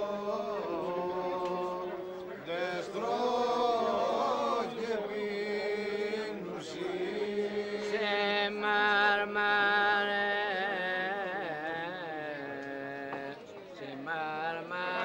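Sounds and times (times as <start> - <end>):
person singing ornamented chant: 0.0 - 15.0.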